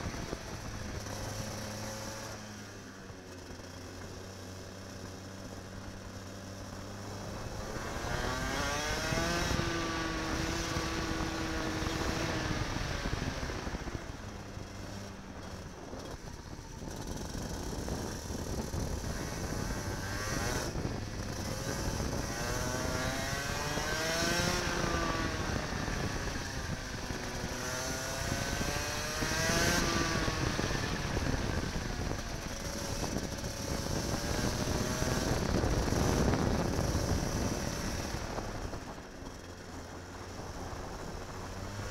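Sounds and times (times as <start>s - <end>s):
kart engine revving: 0.0s - 41.9s.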